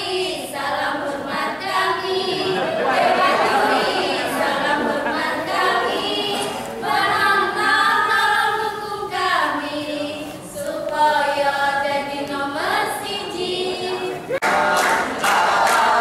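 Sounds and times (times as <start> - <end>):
women singing a cheer song: 0.0 - 16.0.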